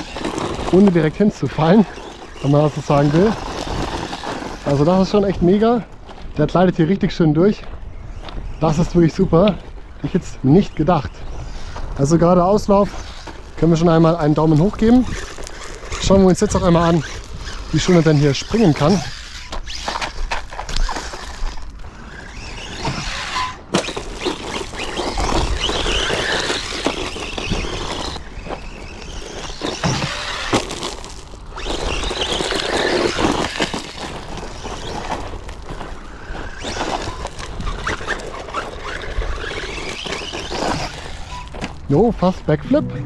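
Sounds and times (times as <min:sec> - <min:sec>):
rc truck motor whining: 0:00.0 - 0:05.1, 0:10.6 - 0:41.8
tyres scrabbling on stones: 0:00.0 - 0:42.6.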